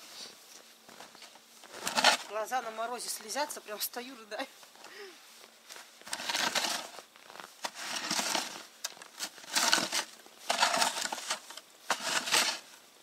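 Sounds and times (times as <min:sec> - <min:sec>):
snow shovel crunching and scraping: 0:00.0 - 0:03.4, 0:05.6 - 0:12.8.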